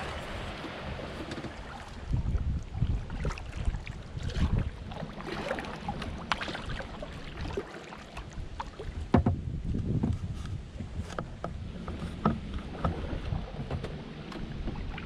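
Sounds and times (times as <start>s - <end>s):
kayak paddle splashing: 0.0s - 15.0s
wind rumbling on microphone: 0.0s - 15.0s.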